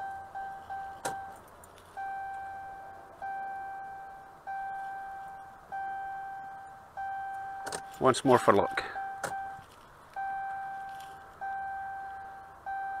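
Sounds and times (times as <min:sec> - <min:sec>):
dashboard warning chime: 0:00.0 - 0:01.4, 0:02.0 - 0:13.0.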